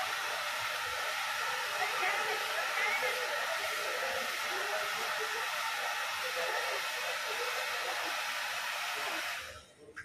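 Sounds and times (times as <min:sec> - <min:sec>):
hair dryer blowing: 0:00.0 - 0:09.7.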